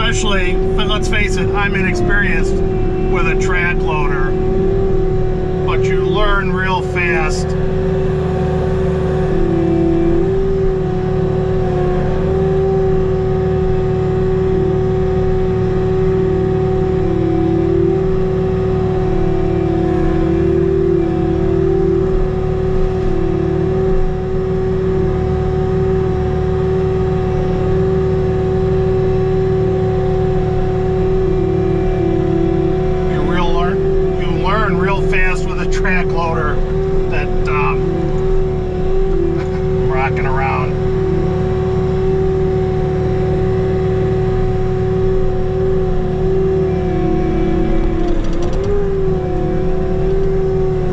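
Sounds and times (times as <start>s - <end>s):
diesel engine whining: 0.0s - 50.9s.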